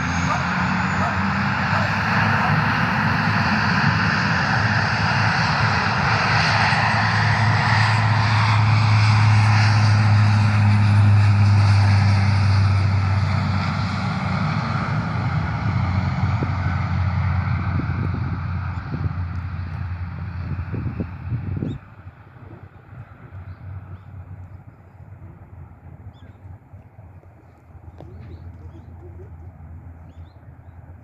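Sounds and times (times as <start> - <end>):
airplane passing by: 0.0 - 31.0.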